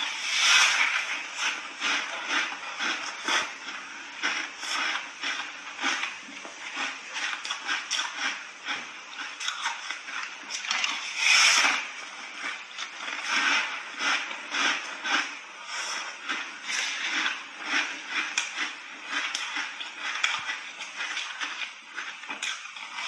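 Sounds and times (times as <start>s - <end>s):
crunching and chewing ice: 0.0s - 23.0s.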